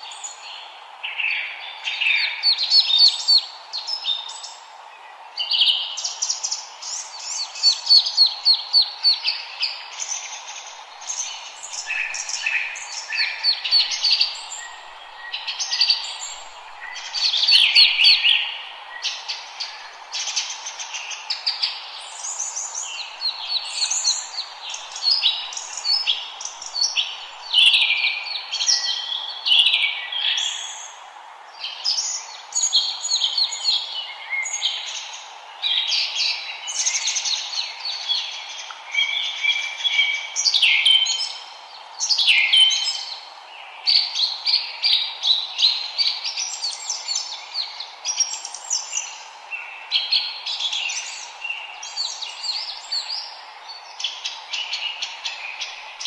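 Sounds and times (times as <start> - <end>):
songbirds singing: 0.0 - 56.0
steady background hiss: 0.0 - 56.0.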